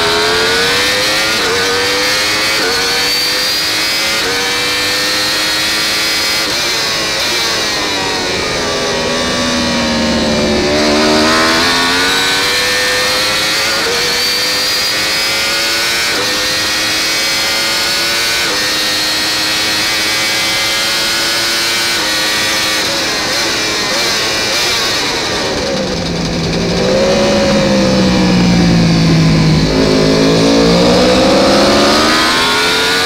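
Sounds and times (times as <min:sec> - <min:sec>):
motorcycle engine at full throttle: 0:00.0 - 0:33.0.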